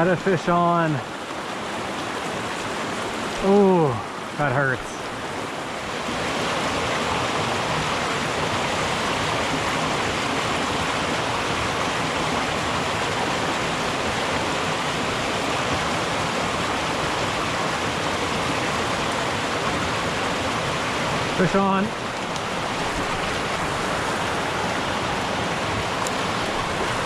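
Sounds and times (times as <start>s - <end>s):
creek rushing over rocks: 0.0s - 27.0s.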